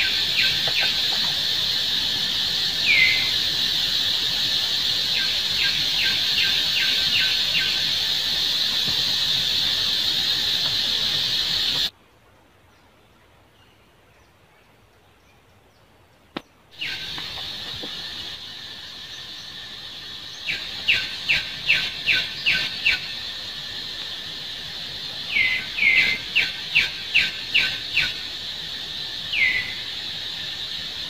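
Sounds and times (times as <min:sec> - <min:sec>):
high-pitched insect drone: 0:00.0 - 0:11.9, 0:16.8 - 0:31.0.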